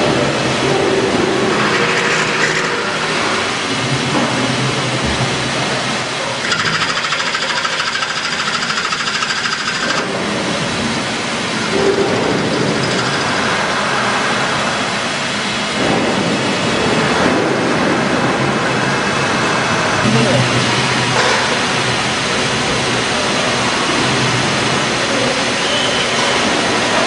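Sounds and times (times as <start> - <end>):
lathe machining hiss and whine: 0.0 - 17.2, 18.0 - 27.0.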